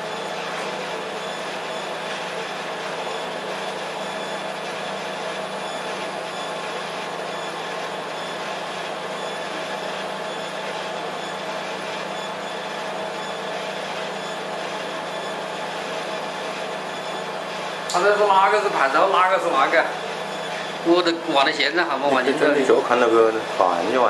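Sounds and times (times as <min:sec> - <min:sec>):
machine hum and fan noise: 0:00.0 - 0:24.0.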